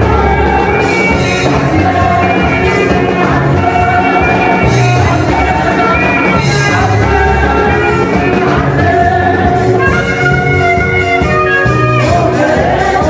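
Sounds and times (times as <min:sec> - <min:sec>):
singing over heavy bass music: 0:00.0 - 0:13.0.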